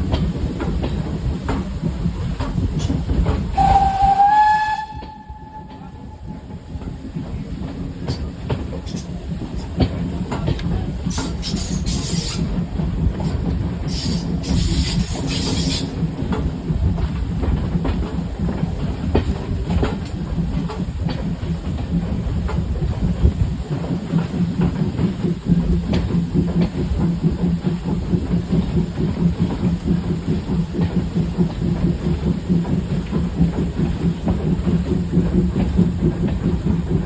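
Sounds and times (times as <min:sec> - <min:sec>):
train low rumble: 0:00.0 - 0:37.0
wheels clicking over rail joints: 0:00.0 - 0:37.0.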